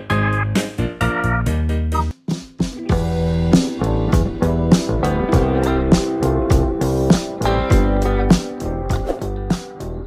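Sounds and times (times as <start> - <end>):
intro music with steady beat: 0.0 - 10.0.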